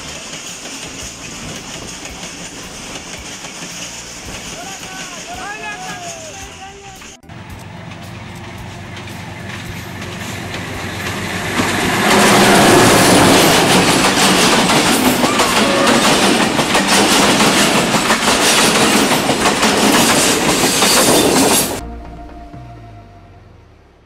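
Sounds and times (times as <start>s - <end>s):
train wheels clickety-clack: 0.0s - 21.8s
diesel locomotive passing: 0.0s - 24.0s.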